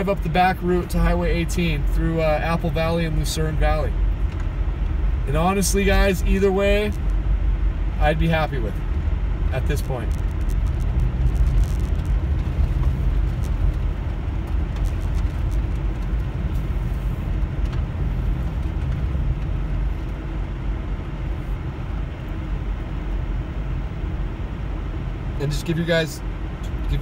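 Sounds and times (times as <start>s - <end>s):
car road noise from inside: 0.0s - 27.0s.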